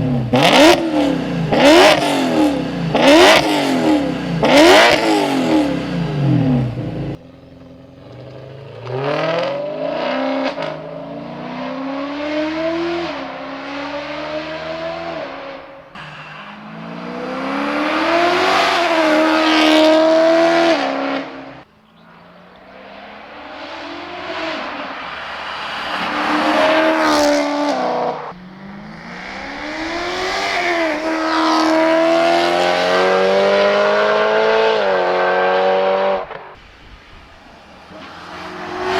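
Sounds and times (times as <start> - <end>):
car engine accelerating hard: 0.0 - 38.9.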